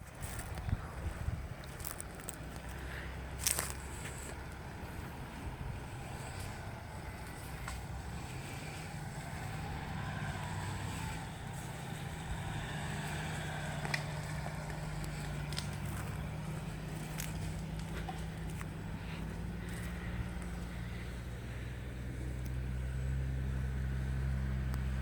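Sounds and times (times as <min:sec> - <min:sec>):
car engine running at low revs: 0:00.0 - 0:25.0.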